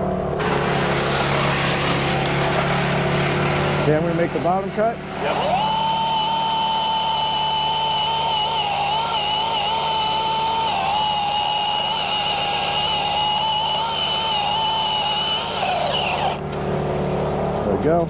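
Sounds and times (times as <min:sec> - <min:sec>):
electric chainsaw cutting wood: 0:00.3 - 0:16.5.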